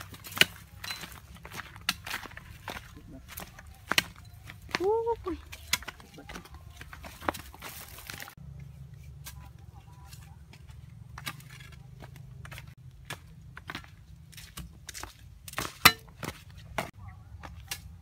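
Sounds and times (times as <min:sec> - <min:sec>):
flip-flop footsteps on dirt path: 0:00.0 - 0:18.0.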